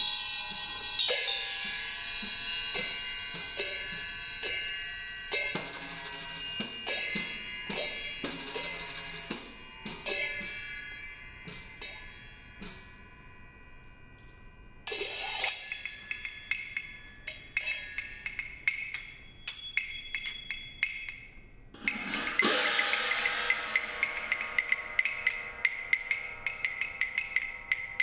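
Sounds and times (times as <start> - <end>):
metallic percussion strikes ringing: 0.0 - 28.0.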